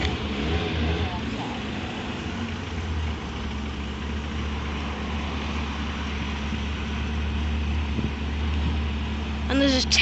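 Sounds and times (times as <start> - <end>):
car engine at low revs: 0.0 - 10.0.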